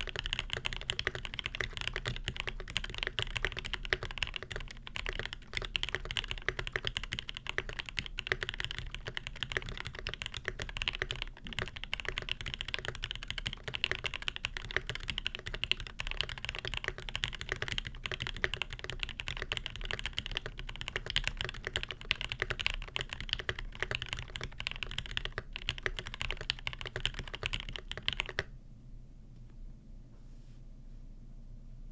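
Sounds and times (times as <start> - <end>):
fast mechanical keyboard typing: 0.0 - 28.5.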